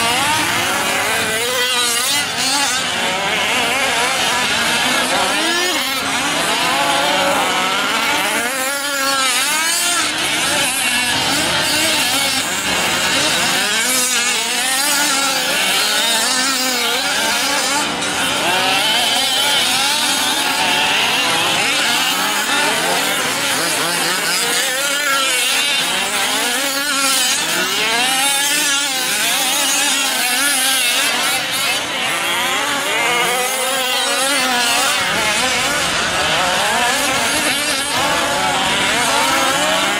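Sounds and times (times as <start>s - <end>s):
small two-stroke engines revving: 0.0s - 39.9s.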